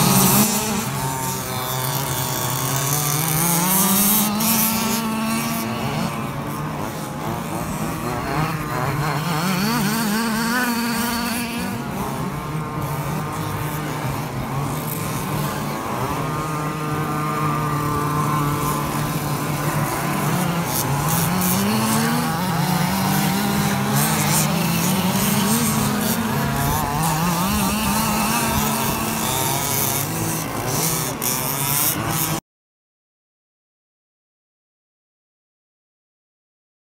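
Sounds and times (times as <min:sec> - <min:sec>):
rc car engines revving: 0:00.0 - 0:32.4.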